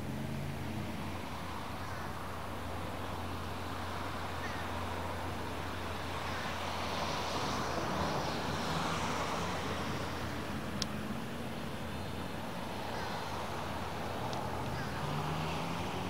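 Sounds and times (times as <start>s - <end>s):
rushing outdoor background noise: 0.0s - 16.0s.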